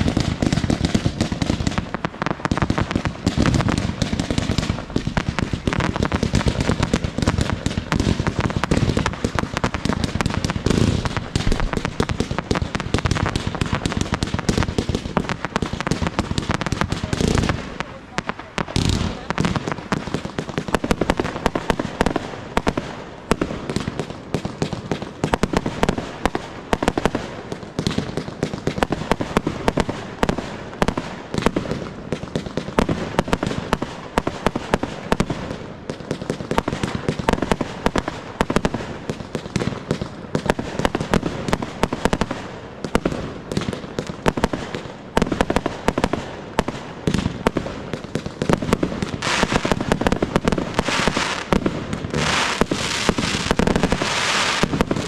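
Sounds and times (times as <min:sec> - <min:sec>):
fireworks bursting bangs: 0:00.0 - 0:55.0
hissing crackle: 0:00.0 - 0:55.0.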